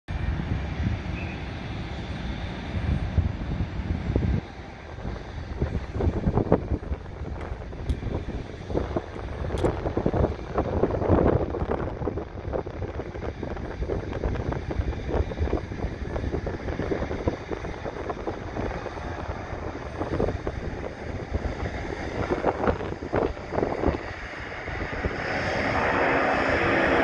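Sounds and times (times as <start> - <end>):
jet engines at takeoff: 0.1 - 27.0
wind buffeting microphone: 0.1 - 27.0.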